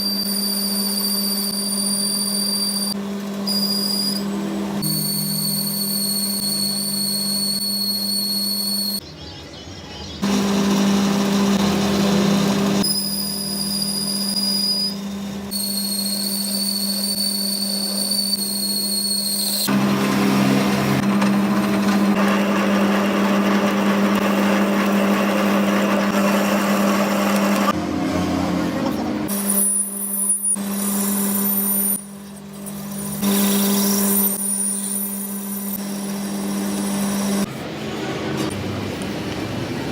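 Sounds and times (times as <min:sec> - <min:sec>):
workshop machinery humming and whining: 0:00.0 - 0:09.3, 0:10.1 - 0:39.9.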